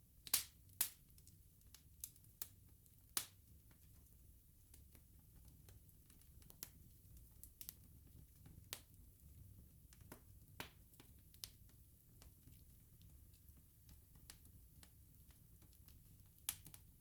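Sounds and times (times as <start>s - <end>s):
bonfire crackling and popping: 0.2s - 17.0s.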